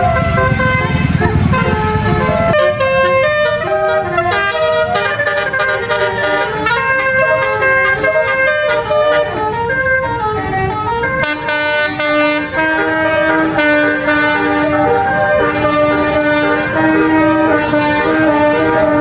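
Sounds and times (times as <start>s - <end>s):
musical bus horn tune: 0.0s - 19.0s.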